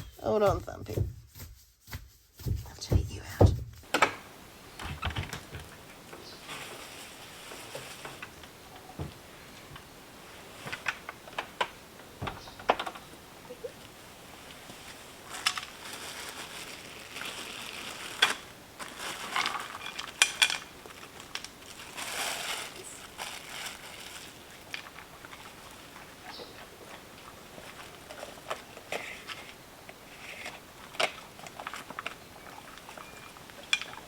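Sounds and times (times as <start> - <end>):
rustling of gear: 3.8 - 34.0.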